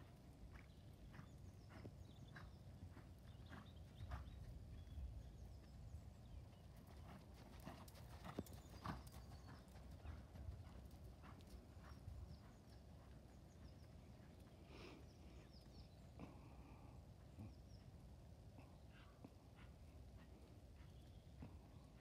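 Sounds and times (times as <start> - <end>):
hoofbeats on sand: 0.0 - 17.9, 18.8 - 22.0.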